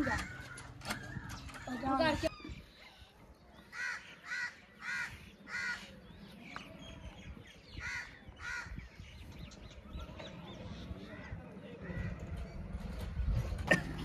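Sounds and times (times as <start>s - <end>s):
harsh bird calls: 0.0s - 12.8s.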